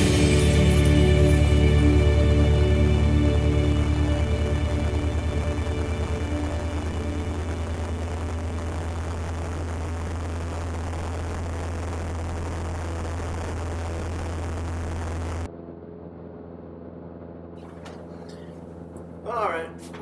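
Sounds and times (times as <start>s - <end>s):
light plane engine droning: 0.0s - 20.0s.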